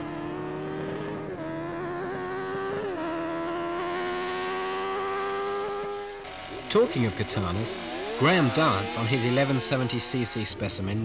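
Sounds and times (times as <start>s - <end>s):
motorcycles accelerating hard: 0.0s - 10.6s.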